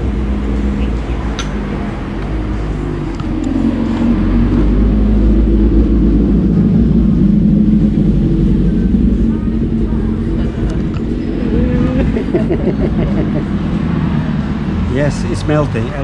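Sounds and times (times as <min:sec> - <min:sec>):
motorbike engine running: 0:00.0 - 0:14.7.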